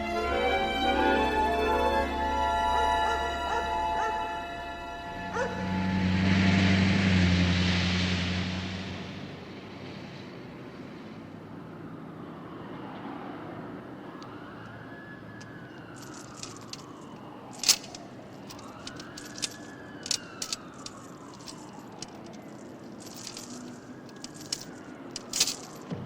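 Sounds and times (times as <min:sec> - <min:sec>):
siren wailing: 0:00.0 - 0:07.6, 0:12.0 - 0:25.8
traffic hum: 0:00.0 - 0:26.0.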